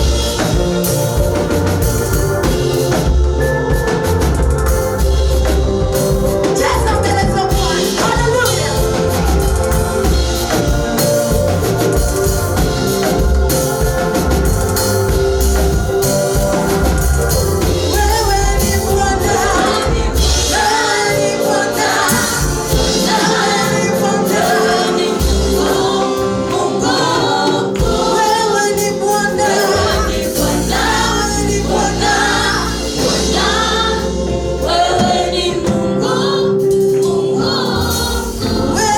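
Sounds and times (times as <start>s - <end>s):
band accompaniment with bass: 0.0s - 38.9s
gospel choir singing: 0.0s - 38.9s.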